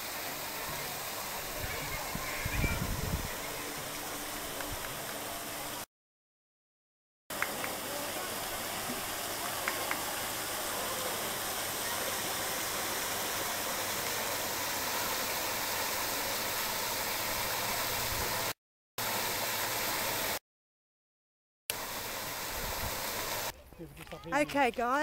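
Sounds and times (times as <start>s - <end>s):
waterfall rushing into pond: 0.0s - 5.9s, 7.3s - 20.4s, 21.7s - 23.5s.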